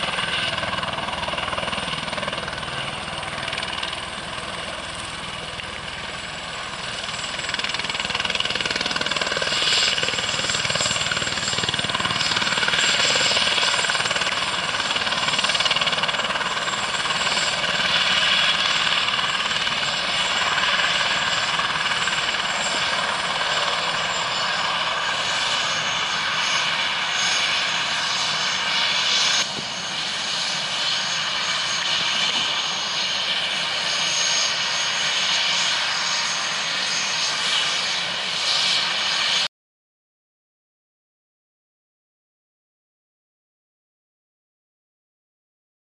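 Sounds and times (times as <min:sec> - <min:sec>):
helicopter turbine whine: 0:00.0 - 0:39.5.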